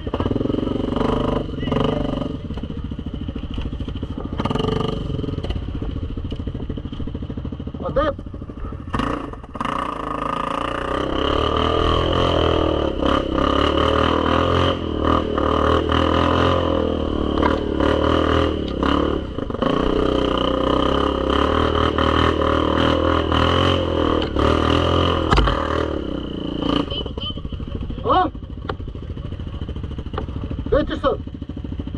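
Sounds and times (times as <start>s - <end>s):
atv engine revving: 0.0s - 31.9s.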